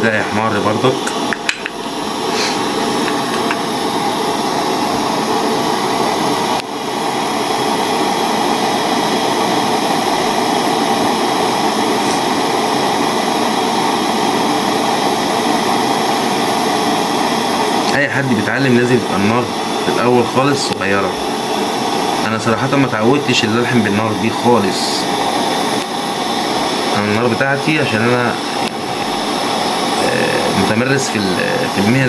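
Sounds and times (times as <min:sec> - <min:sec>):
torch flame hissing: 0:00.0 - 0:32.0.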